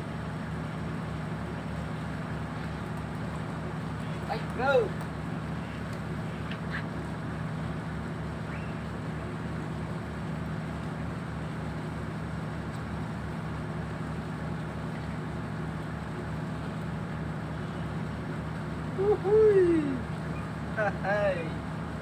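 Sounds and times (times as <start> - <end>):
engine running with low throb: 0.0 - 22.0.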